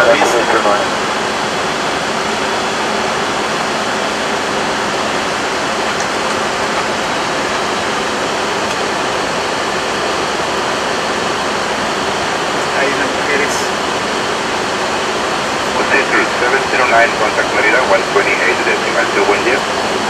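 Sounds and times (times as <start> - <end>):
faint high whine: 0.0 - 5.8, 9.4 - 20.0
airflow in cockpit: 0.0 - 20.0.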